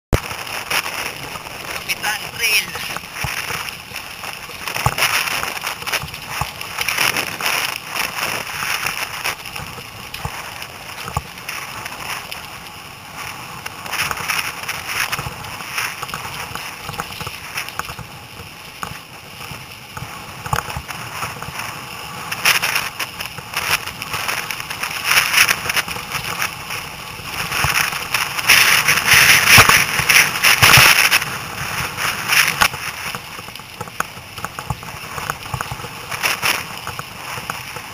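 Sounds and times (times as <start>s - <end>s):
tyres crunching on gravel: 0.2s - 37.9s
bike clicks and rattles: 2.9s - 37.9s.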